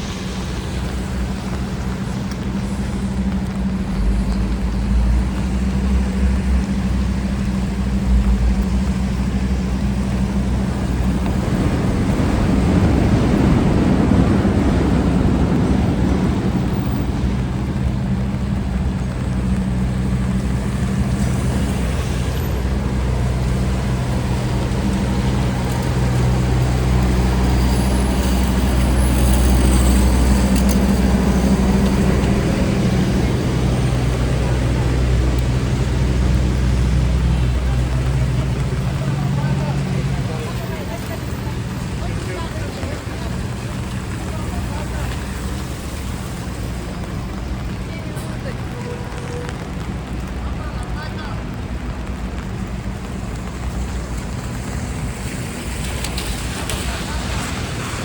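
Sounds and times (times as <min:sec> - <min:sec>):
hum of idling engines: 0:00.0 - 0:58.0
vehicle passing: 0:05.2 - 0:58.0.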